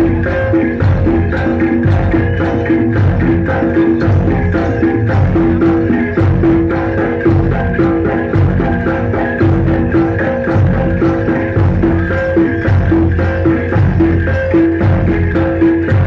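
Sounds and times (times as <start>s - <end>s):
jangling metal percussion: 0.0s - 16.0s
low drum beat: 0.0s - 16.0s.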